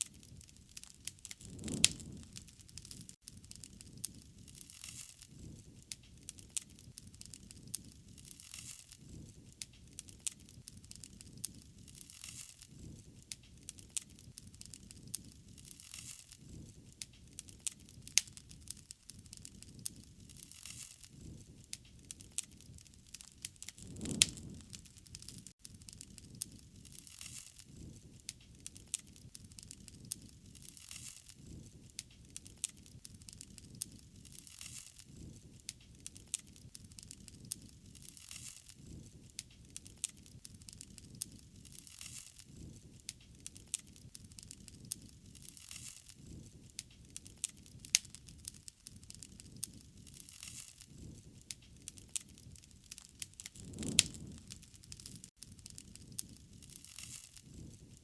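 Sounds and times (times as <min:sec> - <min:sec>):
wood fire snapping and popping: 0:00.0 - 0:58.0
low rush of flames: 0:00.3 - 0:58.0.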